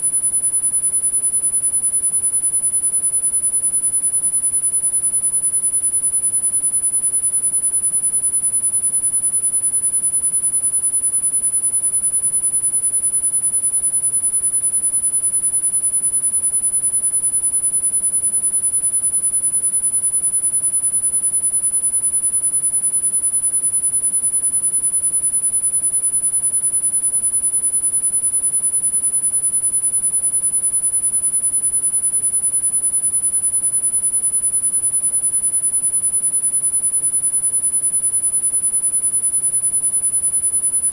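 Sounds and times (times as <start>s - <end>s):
high-pitched sine tone: 0.0s - 40.9s.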